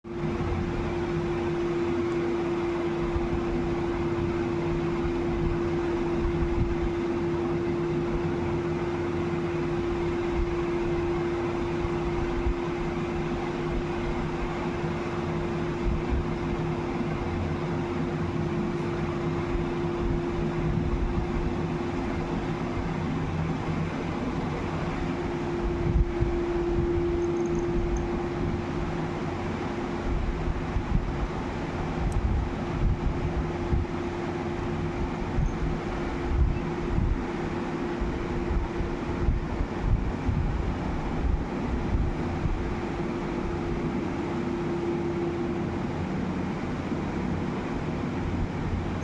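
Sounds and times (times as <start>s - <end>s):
machine hum with constant tone: 0.0s - 49.0s.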